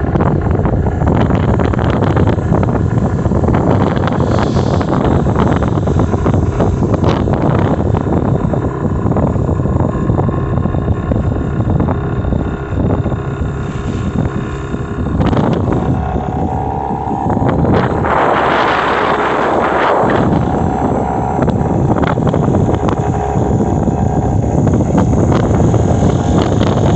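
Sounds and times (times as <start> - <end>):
outboard motor running: 0.0 - 26.9
wind buffeting microphone: 0.0 - 26.9.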